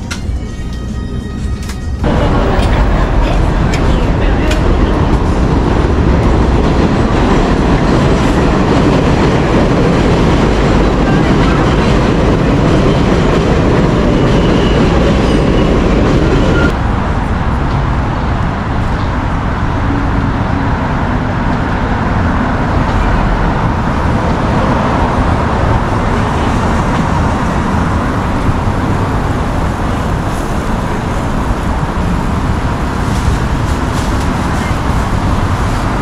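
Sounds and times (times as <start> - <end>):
elevated train running overhead: 0.0 - 36.0
street traffic: 0.0 - 36.0.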